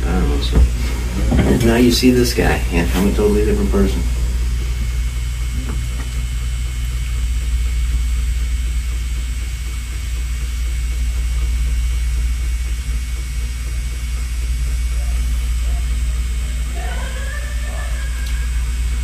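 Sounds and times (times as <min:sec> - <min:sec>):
tattoo pen humming: 0:00.0 - 0:19.0.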